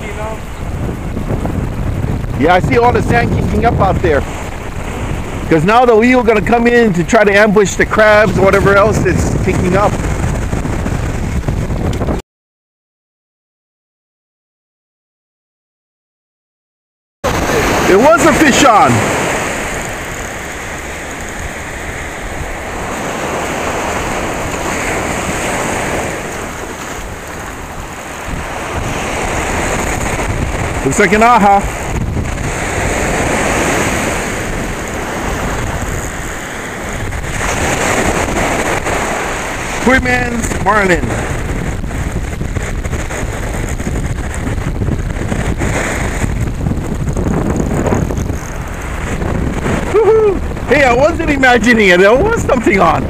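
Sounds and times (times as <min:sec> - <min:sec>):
ocean surf breaking on beach: 0:00.0 - 0:12.2, 0:17.2 - 0:53.0
wind buffeting microphone: 0:00.0 - 0:12.2, 0:17.2 - 0:53.0.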